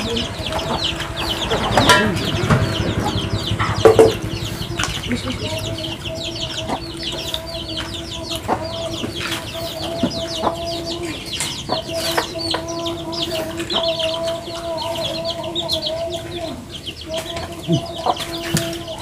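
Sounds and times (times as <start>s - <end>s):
chickens peeping: 0.0s - 19.0s
steady low hum: 0.0s - 19.0s.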